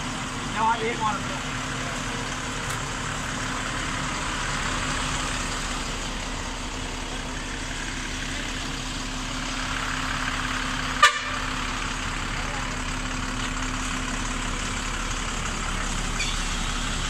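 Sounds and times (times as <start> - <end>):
bus engine idling: 0.0 - 17.0.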